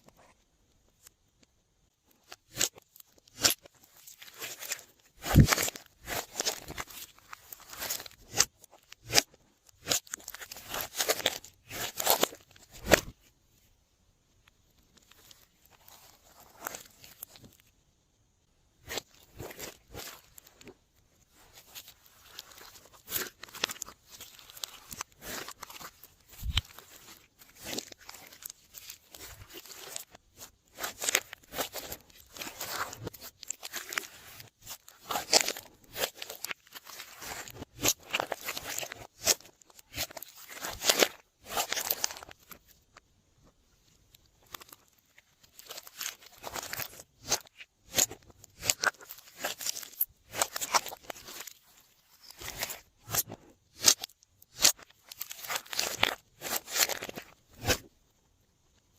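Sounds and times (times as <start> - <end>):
slime squelching: 2.2 - 13.2, 18.8 - 42.7, 44.4 - 57.9.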